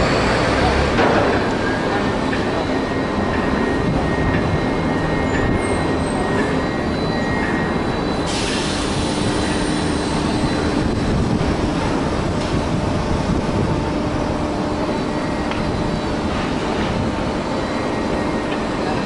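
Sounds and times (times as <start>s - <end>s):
crane machinery rumbling: 0.0s - 19.0s.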